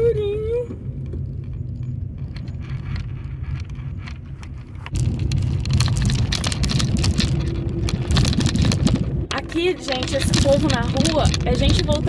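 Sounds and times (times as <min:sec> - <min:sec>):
car engine and road rumble: 0:00.0 - 0:12.0
crackling patter of road: 0:00.7 - 0:12.0.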